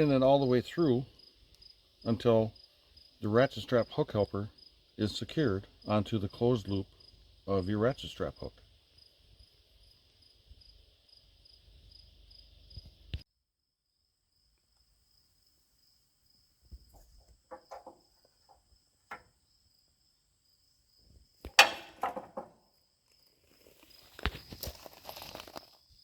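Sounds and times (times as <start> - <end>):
crickets chirping: 0.0 - 13.2, 13.8 - 26.0
faint high insect tone: 0.0 - 26.0.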